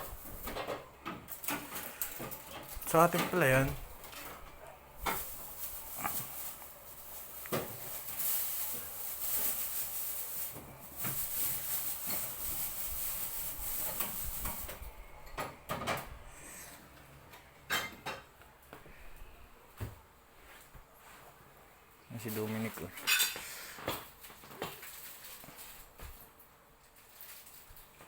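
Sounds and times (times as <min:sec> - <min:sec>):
rustling and scraping: 0:00.0 - 0:15.0, 0:19.8 - 0:28.0.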